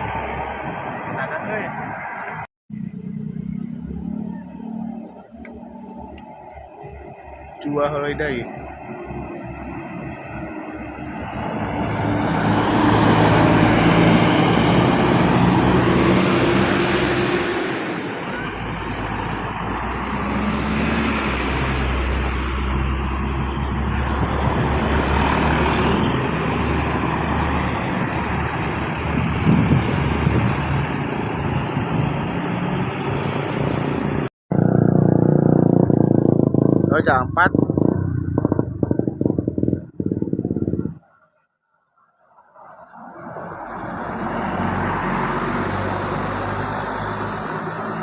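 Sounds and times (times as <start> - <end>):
buses and traffic passing: 0.0 - 41.4, 42.1 - 48.0.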